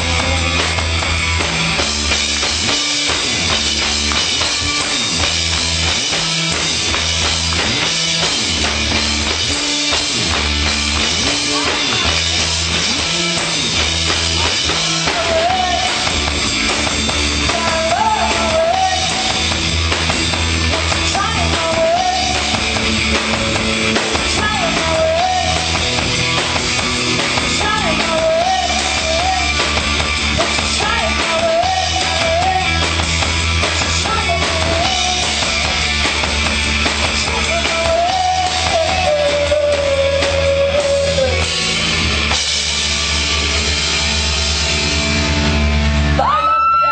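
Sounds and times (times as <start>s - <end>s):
rock band playing live: 0.0s - 46.9s.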